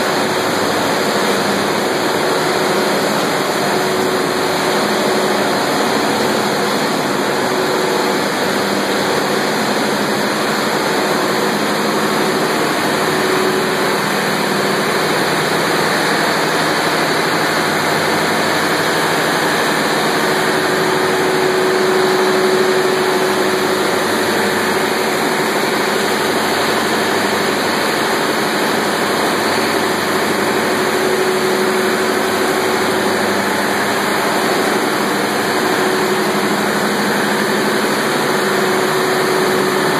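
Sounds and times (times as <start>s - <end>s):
processing machinery running: 0.0s - 39.9s.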